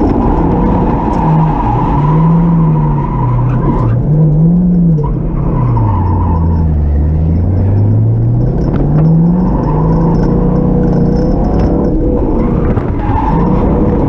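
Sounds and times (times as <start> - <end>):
car engine revving: 0.0 - 14.0
tyres skidding: 0.0 - 14.0.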